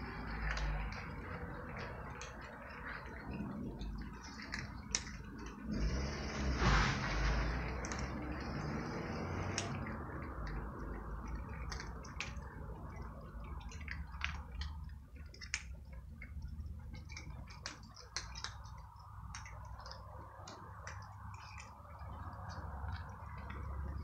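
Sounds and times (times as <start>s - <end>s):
cats crunching dry kibble: 0.0s - 24.0s
low steady rumble: 0.0s - 24.0s.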